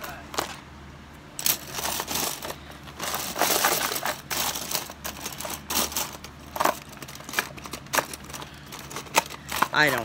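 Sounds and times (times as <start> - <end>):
pens clicking and clattering: 1.4 - 10.0.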